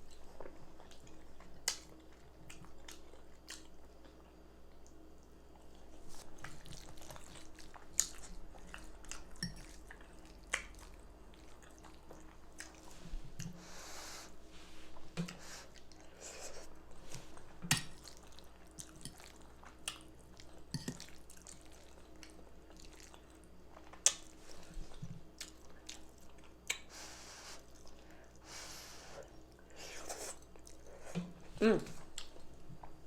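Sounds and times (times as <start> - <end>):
chewing and wet mouth sounds: 0.1 - 13.8, 14.7 - 28.5, 29.2 - 33.0.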